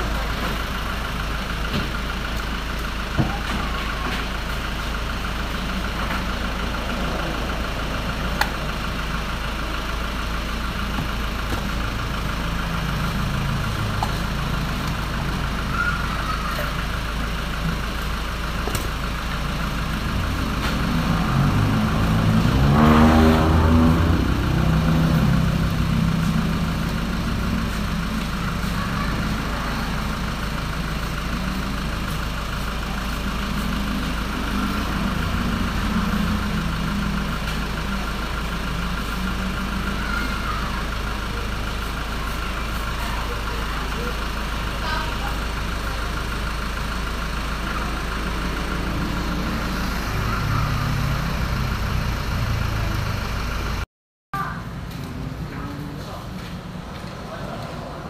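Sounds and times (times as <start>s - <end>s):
engine rising and falling in pitch: 0.0s - 53.9s
steady engine running: 0.0s - 53.9s.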